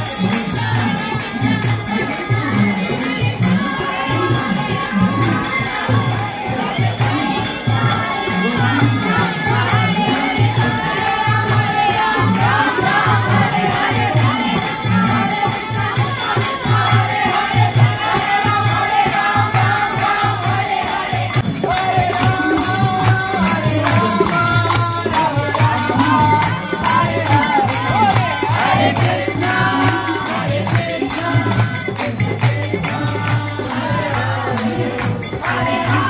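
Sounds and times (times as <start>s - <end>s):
devotional singing: 0.0s - 36.0s
jingling percussion: 0.0s - 36.0s
steady drum beat: 0.0s - 36.0s.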